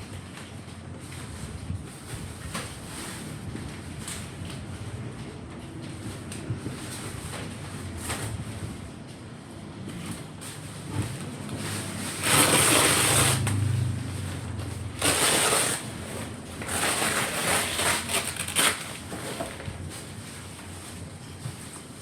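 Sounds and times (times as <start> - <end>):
rustling and crinkling handling noise: 0.0 - 22.0.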